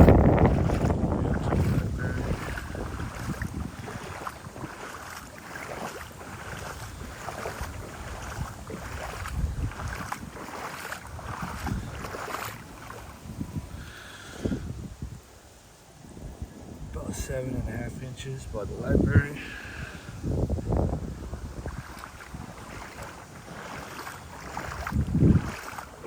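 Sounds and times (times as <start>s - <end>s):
footsteps sloshing through water: 0.0s - 15.2s, 15.9s - 26.0s
wind on microphone: 0.0s - 26.0s.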